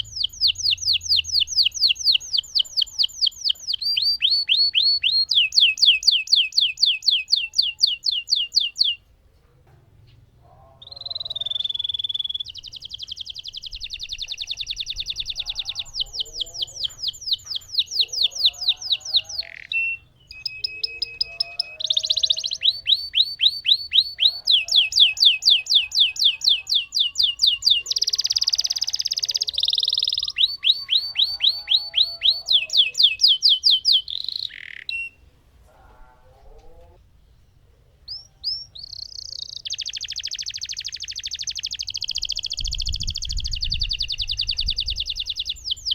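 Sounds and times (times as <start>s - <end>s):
canary singing trills: 0.0s - 9.1s, 10.3s - 45.9s.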